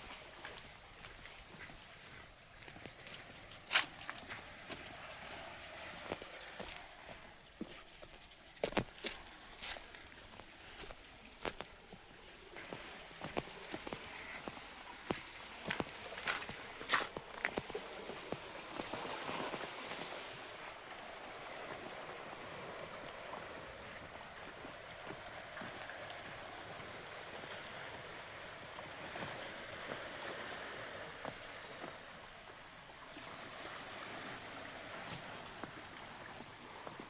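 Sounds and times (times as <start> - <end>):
sea water lapping at shore: 0.0 - 37.0.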